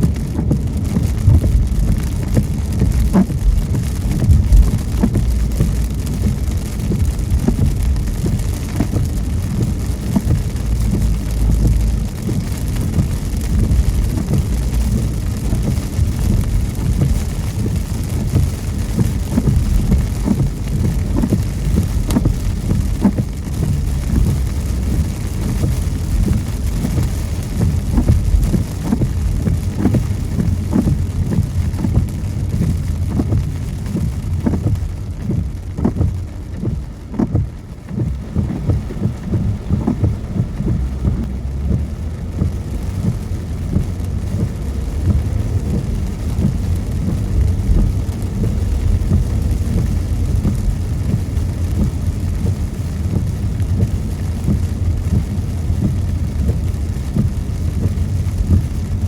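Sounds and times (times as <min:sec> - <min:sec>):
car driving on wet road: 0:00.0 - 0:59.0
rain tapping on windshield: 0:00.0 - 0:59.0.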